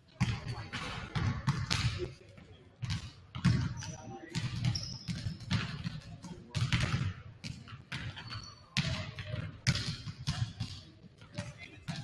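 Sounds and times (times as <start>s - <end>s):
basketballs bouncing on wooden floor: 0.1s - 12.0s.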